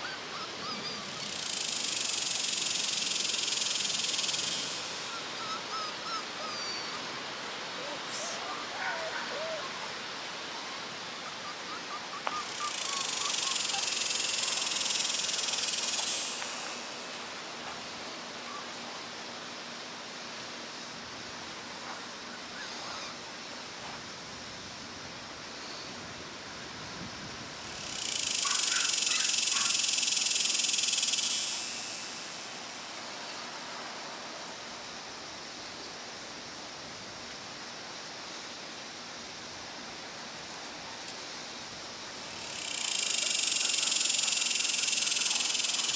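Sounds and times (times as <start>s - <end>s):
high-pitched hiss: 0.0s - 45.9s.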